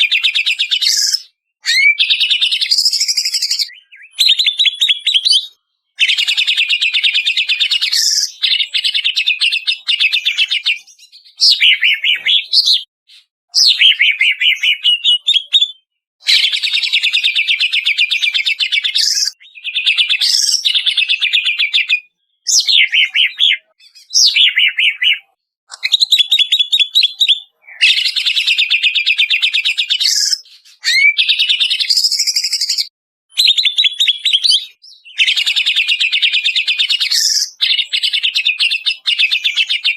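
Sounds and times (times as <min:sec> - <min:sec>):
bird song chattering: 0:00.0 - 0:39.9.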